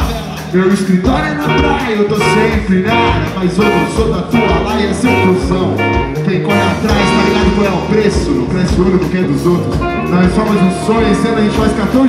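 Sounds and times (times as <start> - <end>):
drum kit beat: 0.0 - 12.0
guitar: 0.0 - 12.0
person singing: 0.0 - 12.0.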